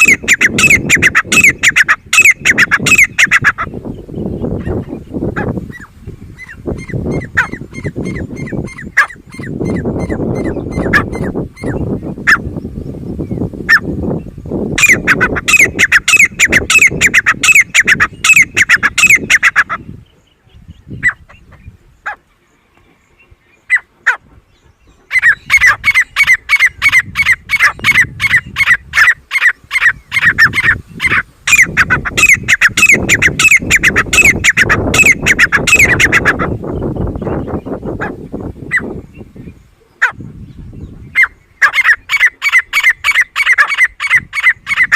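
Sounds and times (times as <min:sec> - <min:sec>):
francolin calling: 0:00.0 - 0:12.5, 0:14.7 - 0:22.2, 0:24.8 - 0:40.2, 0:41.1 - 0:44.9.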